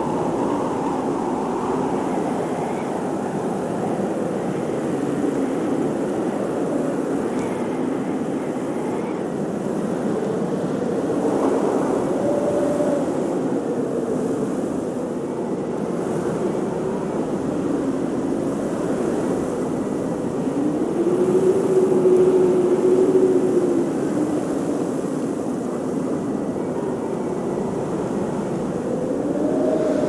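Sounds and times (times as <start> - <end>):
blizzard wind howling: 0.0 - 30.0.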